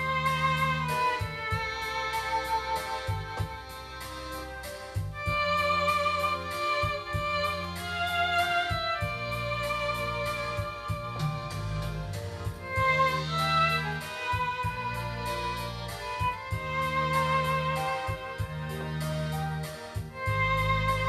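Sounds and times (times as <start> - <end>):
backing track with bass and chords: 0.0 - 21.0
digital wind instrument melody: 0.0 - 21.0.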